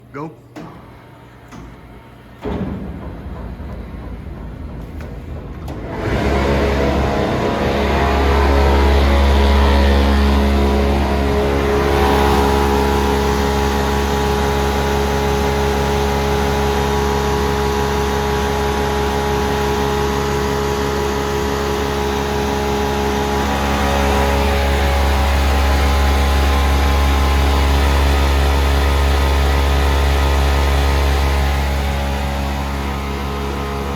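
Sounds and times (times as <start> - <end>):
steady machine tones: 0.0 - 33.9
sanding machine humming: 5.6 - 33.9.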